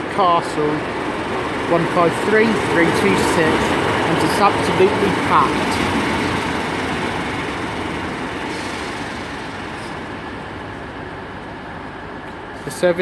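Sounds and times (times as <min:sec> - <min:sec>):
diesel railcar engine and wheels rumbling: 0:00.0 - 0:13.0.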